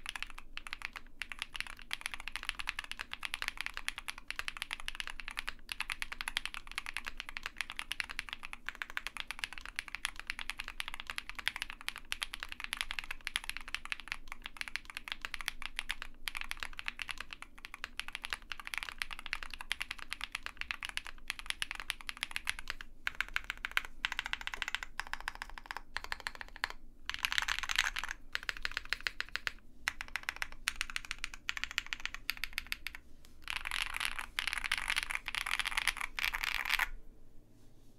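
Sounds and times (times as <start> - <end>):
fast typing on mechanical keyboard: 0.0 - 37.0.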